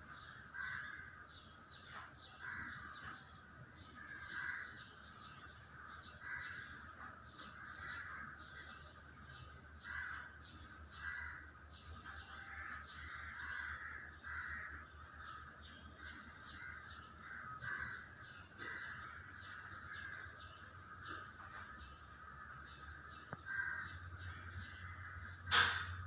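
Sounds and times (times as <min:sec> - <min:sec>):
birds calling harshly: 0:00.0 - 0:26.0.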